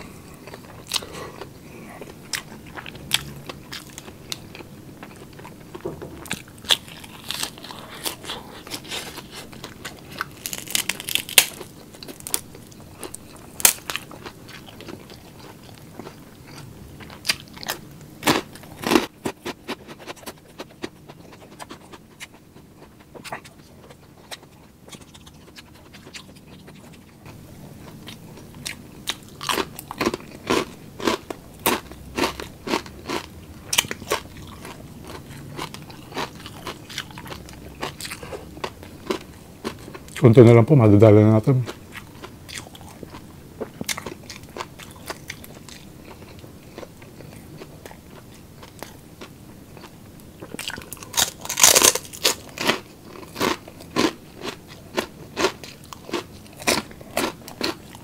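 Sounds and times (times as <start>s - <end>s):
person chewing crunchy food: 0.0s - 40.5s, 41.6s - 58.0s.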